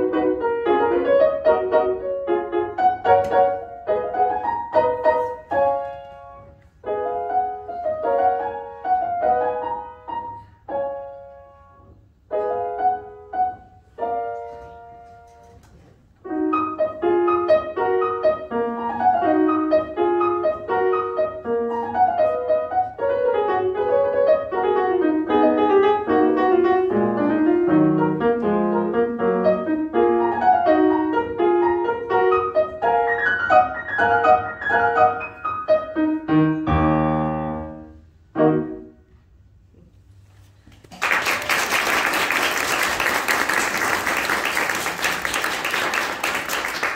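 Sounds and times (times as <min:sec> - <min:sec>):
grand piano playing: 0:00.0 - 0:15.4, 0:16.2 - 0:39.6.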